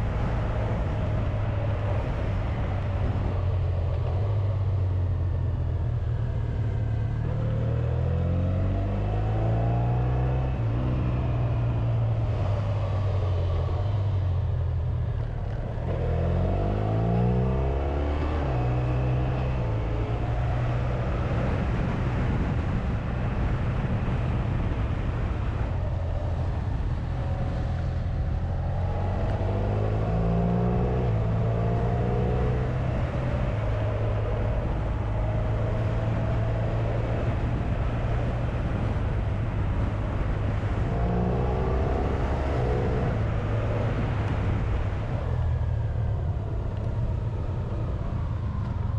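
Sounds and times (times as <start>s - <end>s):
wind rush: 0.0s - 48.9s.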